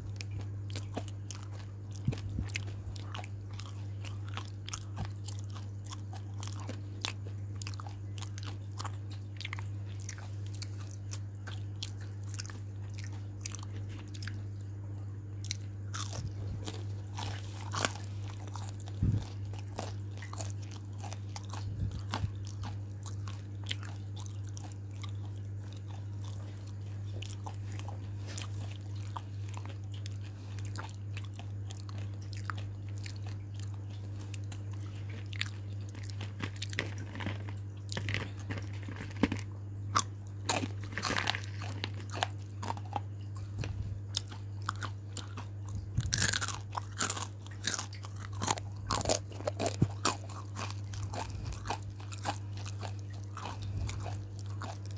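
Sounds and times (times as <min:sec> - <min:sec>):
low electrical hum: 0:00.0 - 0:54.9
person chewing crunchy food: 0:00.0 - 0:54.9.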